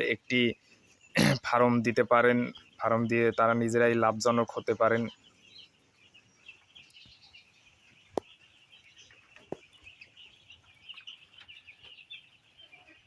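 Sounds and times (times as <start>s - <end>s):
chickens chirping and peeping: 0.0s - 13.0s.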